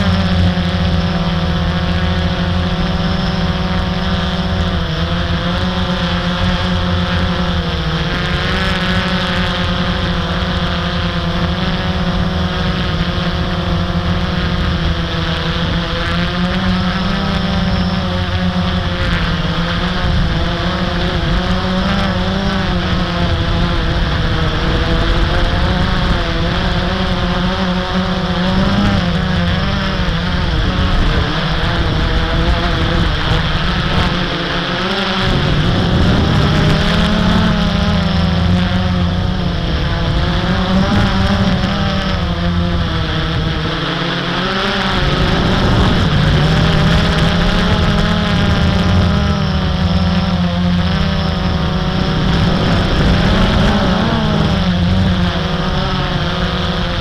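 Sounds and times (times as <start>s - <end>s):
quadcopter propellers buzzing: 0.0s - 57.0s.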